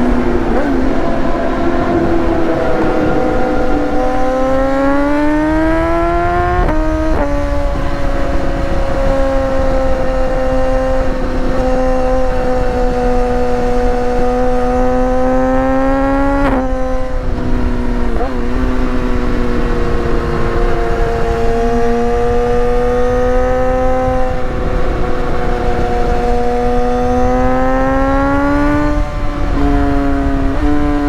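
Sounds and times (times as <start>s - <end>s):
motorcycle engine under load: 0.0s - 31.0s.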